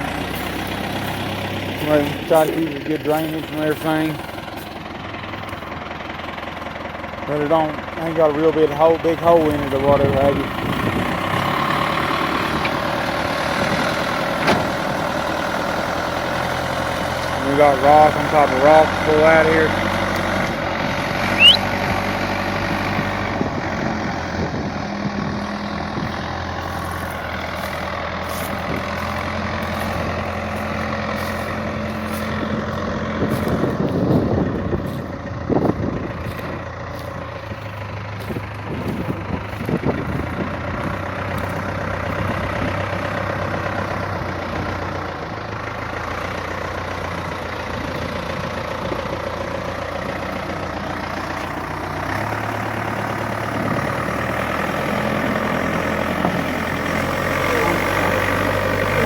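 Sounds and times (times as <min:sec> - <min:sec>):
backhoe engine running: 0:00.0 - 0:59.0.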